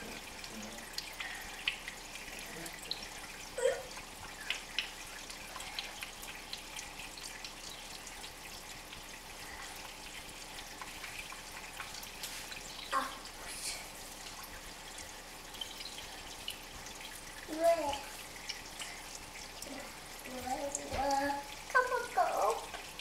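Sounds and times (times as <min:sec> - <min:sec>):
aquarium water bubbling: 0:00.0 - 0:23.0.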